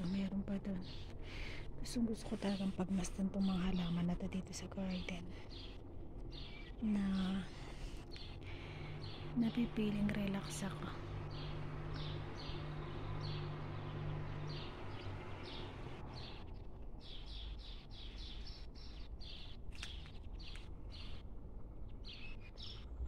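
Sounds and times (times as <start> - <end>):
low steady hum: 0.0 - 23.0
small birds chirping: 0.0 - 23.0.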